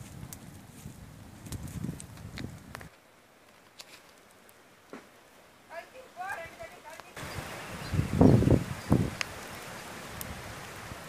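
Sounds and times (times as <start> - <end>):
low rumble of flame: 0.0 - 5.7, 7.2 - 11.0
fire crackling and popping: 0.0 - 11.0.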